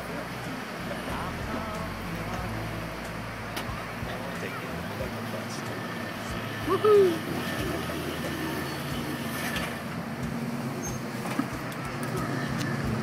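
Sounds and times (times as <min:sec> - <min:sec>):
bus engine hum and road noise: 0:00.0 - 0:13.0.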